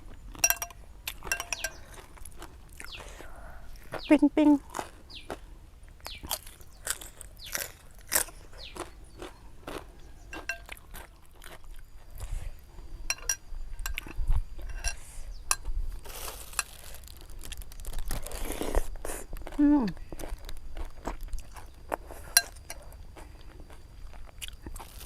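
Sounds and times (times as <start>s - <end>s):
person chewing crisp food: 0.0s - 25.0s.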